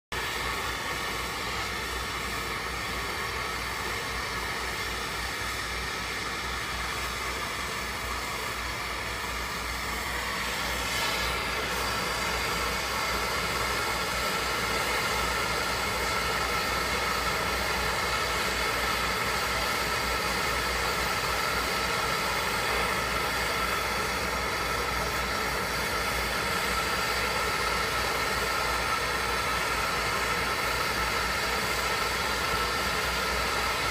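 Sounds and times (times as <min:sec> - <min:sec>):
gas torch flame rushing: 0:00.2 - 0:33.9.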